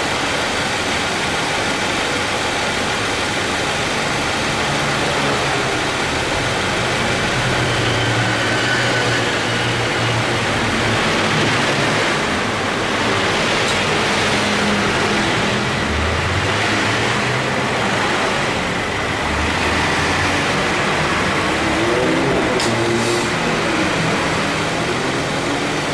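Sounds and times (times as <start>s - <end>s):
car engine idling: 0.0s - 8.4s, 9.6s - 22.6s, 23.2s - 25.9s
air conditioning compressor noise: 0.0s - 8.7s, 9.3s - 25.9s.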